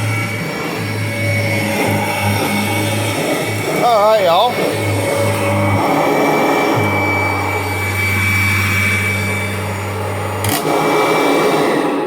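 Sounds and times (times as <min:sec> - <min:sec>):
low hum: 0:00.0 - 0:12.0
upright vacuum cleaner whine: 0:00.0 - 0:12.0.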